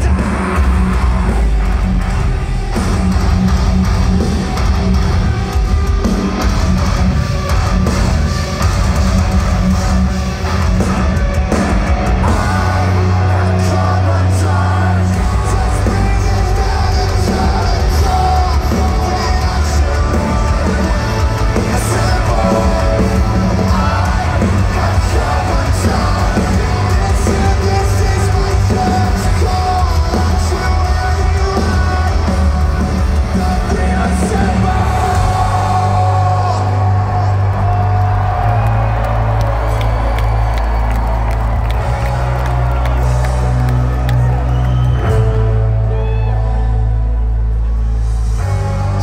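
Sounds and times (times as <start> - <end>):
live rock band playing: 0.0 - 49.0.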